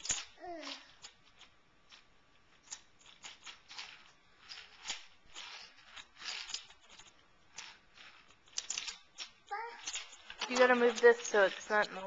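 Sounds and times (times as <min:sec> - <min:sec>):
small objects clicking and rustling: 0:00.0 - 0:12.0.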